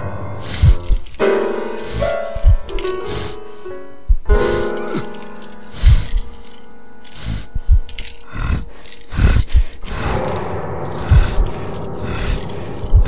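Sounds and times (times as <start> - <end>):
metallic clinking and jangling: 0.4 - 13.0.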